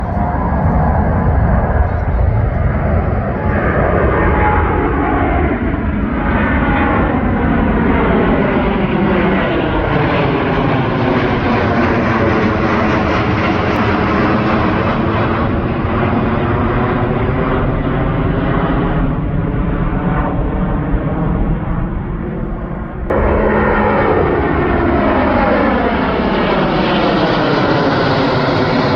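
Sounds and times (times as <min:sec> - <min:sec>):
jet airliner passing overhead: 0:00.0 - 0:28.9.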